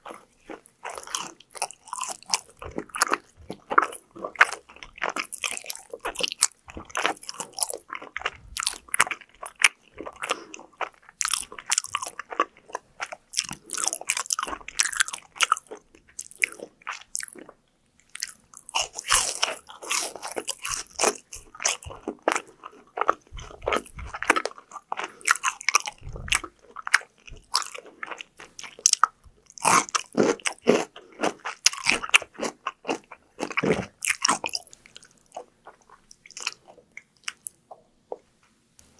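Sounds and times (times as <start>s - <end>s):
crunchy food being chewed: 0.0s - 38.9s.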